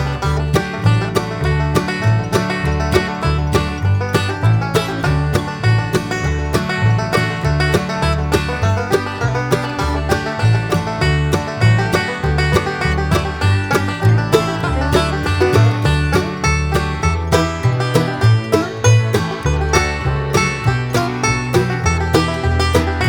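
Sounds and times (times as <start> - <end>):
plucked banjo-like strings: 0.0 - 23.0
upbeat bluegrass music: 0.0 - 23.0
walking bass line: 0.0 - 23.0.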